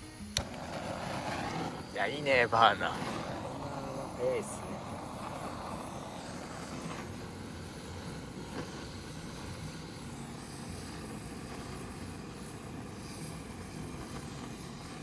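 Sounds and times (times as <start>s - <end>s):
gas burner flame blowing: 0.0s - 15.0s.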